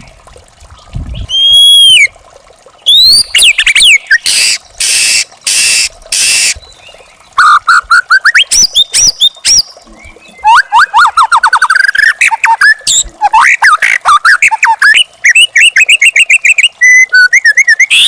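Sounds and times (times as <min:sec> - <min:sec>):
songbird singing: 0:02.8 - 0:18.0.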